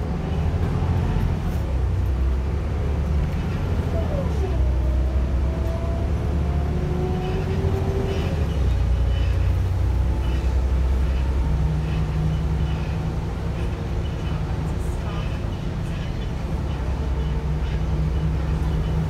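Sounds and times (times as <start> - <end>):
bus diesel engine drone: 0.0 - 19.0
engine whine: 0.0 - 19.0.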